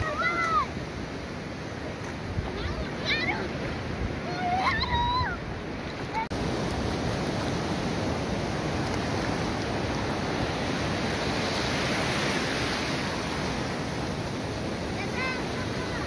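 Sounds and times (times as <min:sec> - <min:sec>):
small waves washing over sand: 0:00.0 - 0:16.0.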